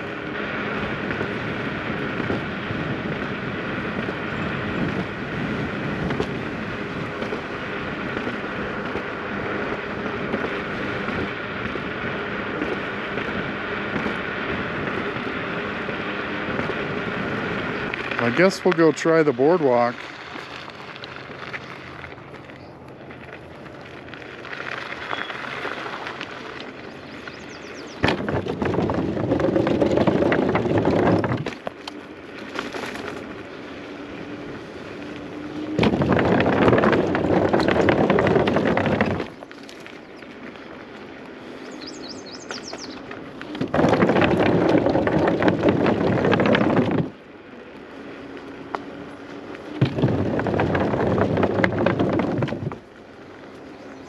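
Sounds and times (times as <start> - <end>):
scooter tyres rattling over planks: 0.0 - 54.0.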